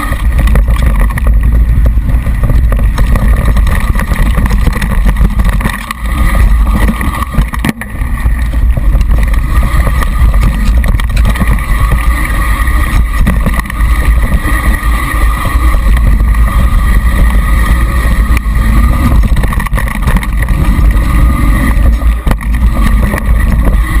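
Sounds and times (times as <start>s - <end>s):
bike rattling: 0.0s - 24.0s
tyre noise on rough trail: 0.0s - 24.0s
wind buffeting microphone: 0.0s - 24.0s.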